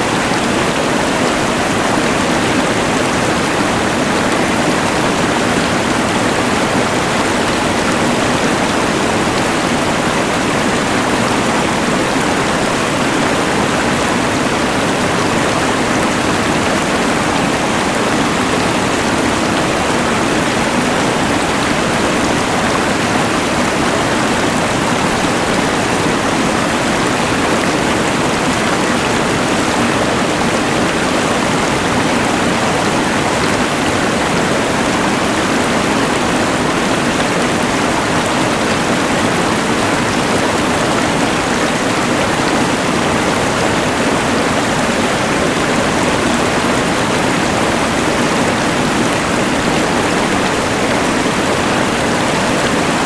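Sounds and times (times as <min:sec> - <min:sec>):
rushing river: 0:00.0 - 0:53.0.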